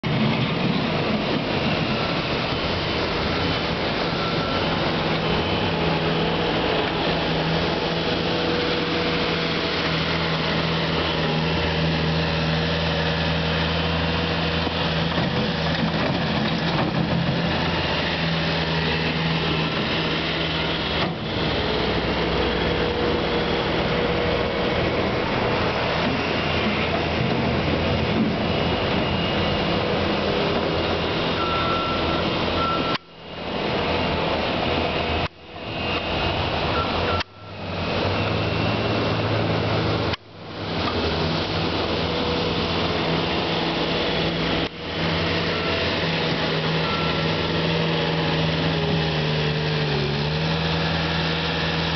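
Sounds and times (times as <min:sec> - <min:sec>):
diesel loader engine running: 0:00.0 - 0:51.9.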